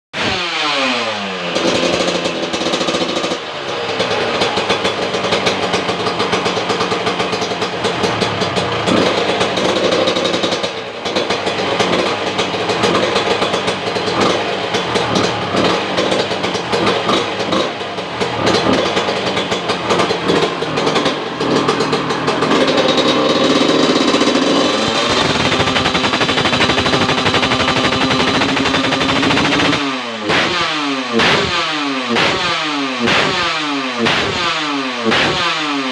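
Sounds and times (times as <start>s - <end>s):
two-stroke motorcycle engine revving: 0.2s - 35.9s.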